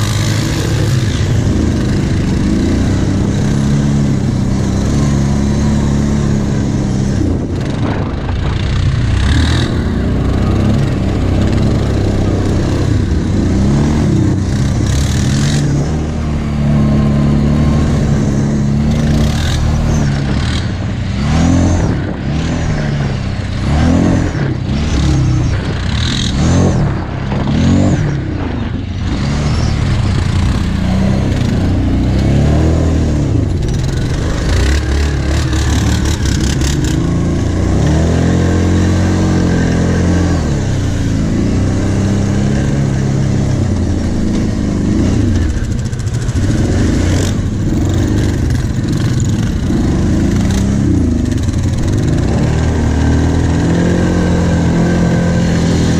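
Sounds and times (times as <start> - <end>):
atv engine revving: 0.0 - 55.9
second quad engine: 0.0 - 55.9.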